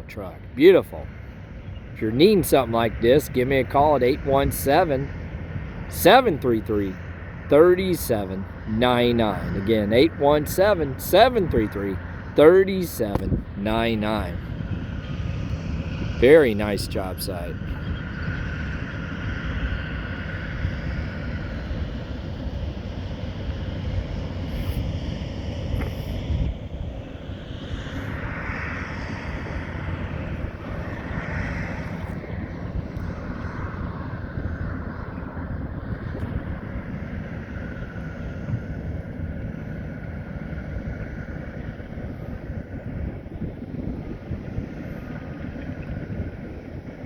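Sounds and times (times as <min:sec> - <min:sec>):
diesel engine low rumble: 0:00.0 - 0:47.0.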